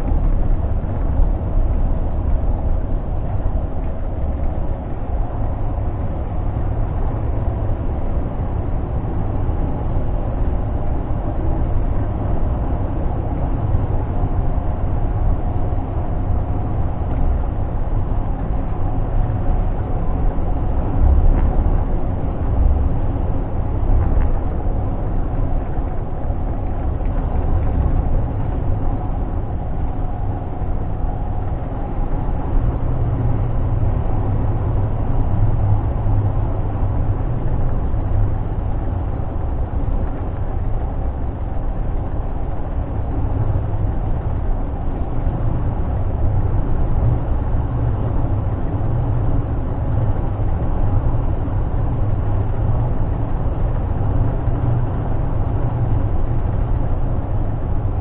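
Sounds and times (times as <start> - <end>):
diesel truck engine drone: 0.0 - 58.0
road noise: 0.0 - 58.0.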